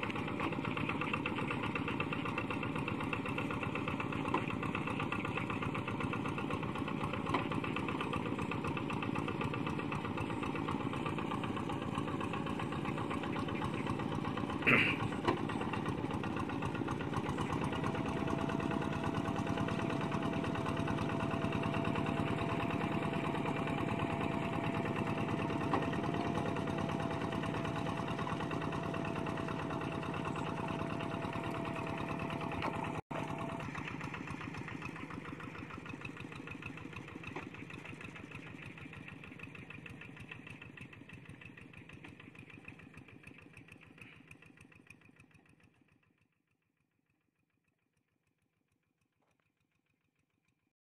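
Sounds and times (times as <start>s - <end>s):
diesel engine running: 0.0s - 45.6s.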